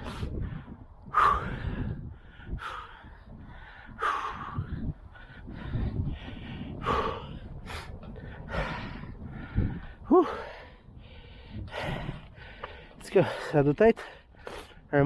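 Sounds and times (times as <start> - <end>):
man breathing hard and gasping: 0.0 - 14.9.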